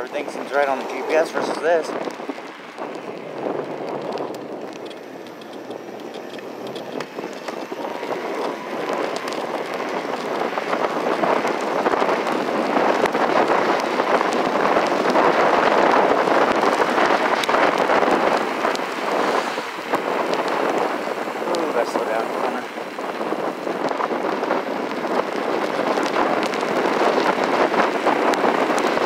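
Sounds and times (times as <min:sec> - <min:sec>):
tyre noise on pavement: 0:00.0 - 0:29.0
wind rushing over microphone: 0:00.0 - 0:29.0.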